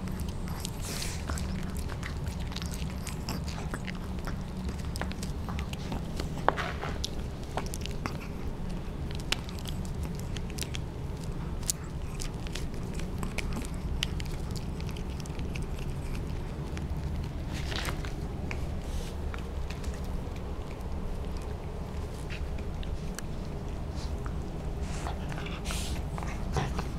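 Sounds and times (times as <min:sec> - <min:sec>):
dog gnawing chew stick: 0:00.0 - 0:26.9.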